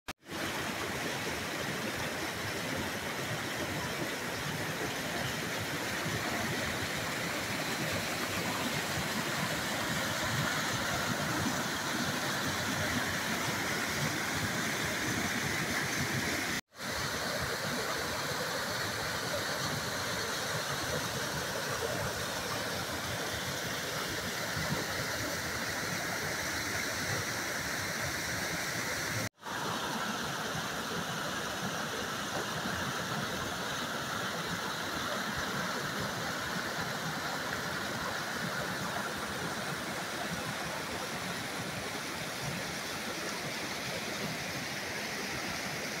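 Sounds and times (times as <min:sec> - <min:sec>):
waterfall rushing: 0:00.3 - 0:46.0.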